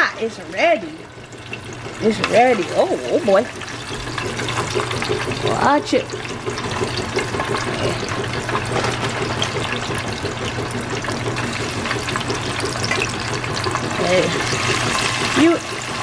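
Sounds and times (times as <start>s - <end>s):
fries sizzling in hot oil: 0.0s - 16.0s.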